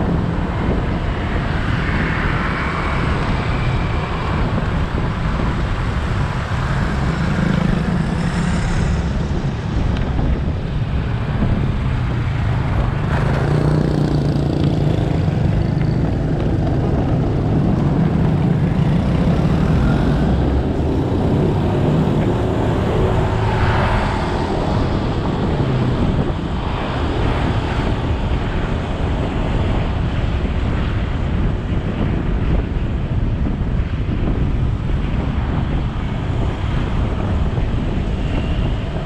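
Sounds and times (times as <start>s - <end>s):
tyre road noise: 0.0s - 39.0s
wind rush on microphone: 0.0s - 39.0s.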